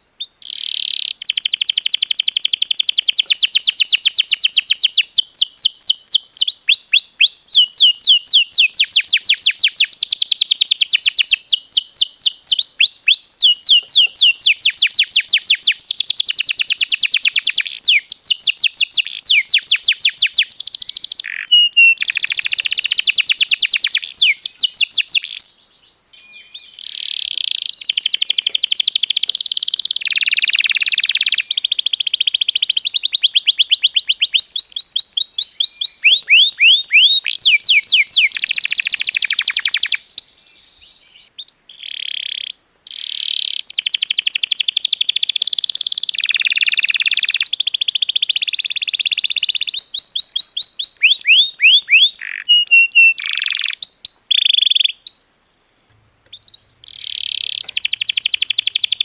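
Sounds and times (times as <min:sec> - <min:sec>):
canary singing trilled song: 0:00.2 - 0:55.3, 0:56.3 - 0:59.0.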